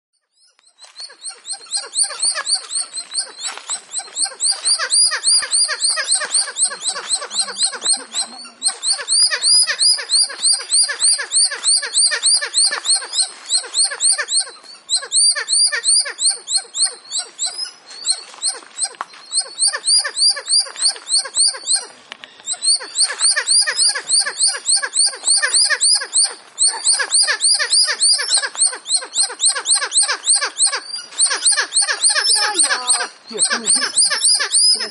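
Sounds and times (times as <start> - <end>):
monkeys chirping calls: 0.4 - 34.9.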